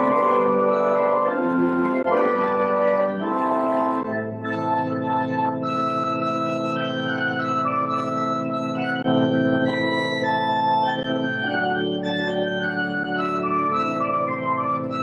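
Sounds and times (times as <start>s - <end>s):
church organ chords: 0.0s - 15.0s.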